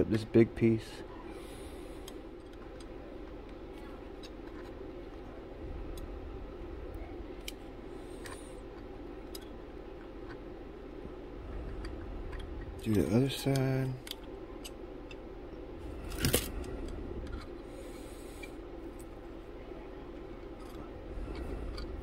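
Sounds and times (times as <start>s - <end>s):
soldering gun humming: 0.9s - 22.0s.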